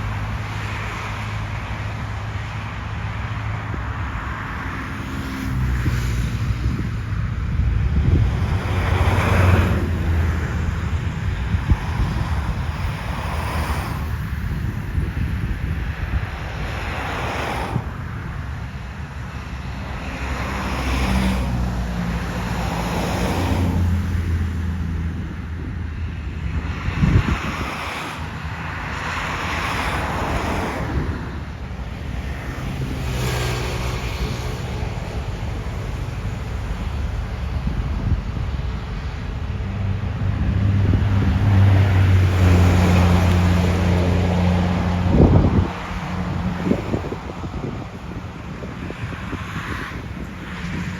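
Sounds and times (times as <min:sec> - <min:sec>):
heavy vehicle engine drone: 0:00.0 - 0:50.9
vehicles passing: 0:00.0 - 0:50.9
wind buffeting microphone: 0:00.0 - 0:50.9.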